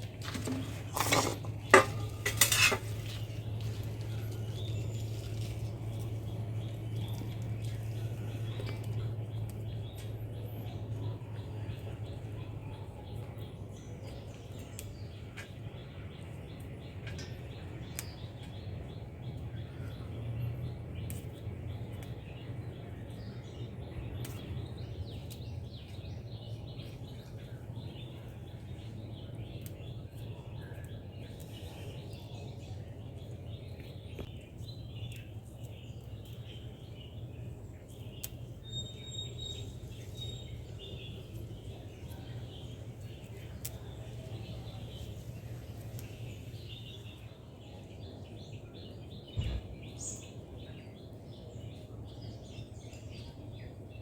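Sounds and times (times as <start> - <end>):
low background hum: 0.0 - 54.0
small birds chirping: 0.0 - 54.0.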